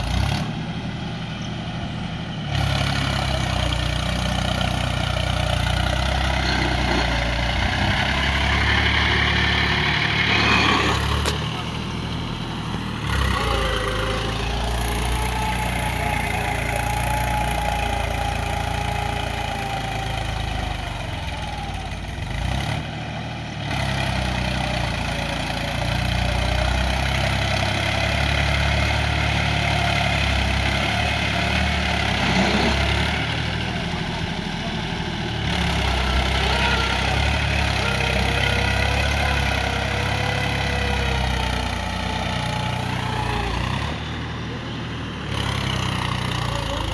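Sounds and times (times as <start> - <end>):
small tractor engine running: 0.0 - 46.9.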